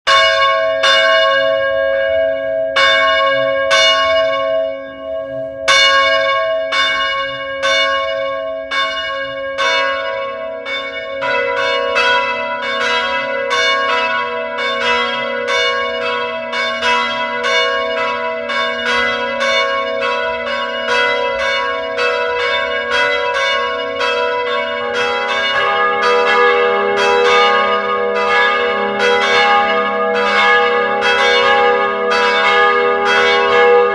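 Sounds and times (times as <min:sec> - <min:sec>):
church bells ringing: 0:00.1 - 0:33.9
lower-pitched bells: 0:00.1 - 0:33.9.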